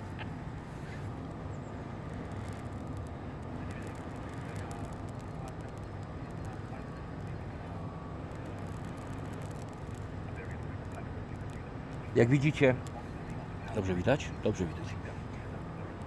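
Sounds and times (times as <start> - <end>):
smouldering tinder crackling: 0.0 - 16.0.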